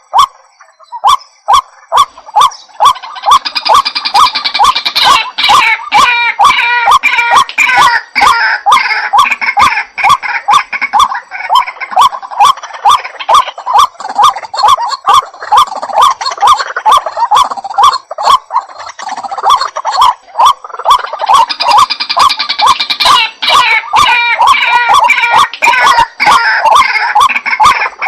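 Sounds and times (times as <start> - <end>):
water hen croaking call: 0.0 - 28.0.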